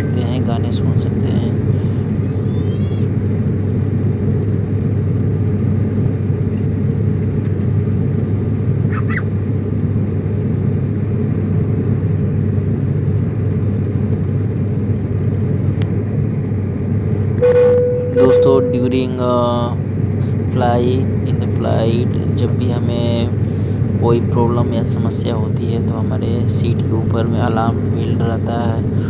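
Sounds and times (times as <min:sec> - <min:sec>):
jet engine rumble and airflow: 0:00.0 - 0:29.0.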